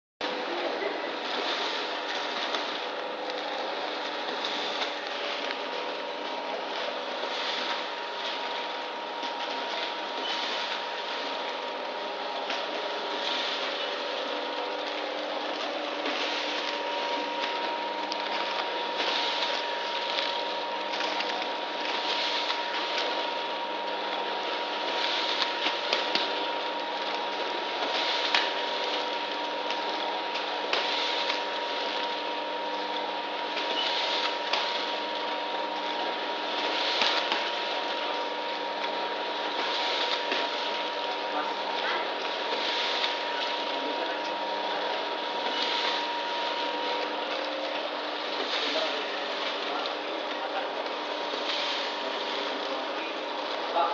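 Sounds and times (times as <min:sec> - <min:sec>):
packing machine humming: 0:00.2 - 0:53.9.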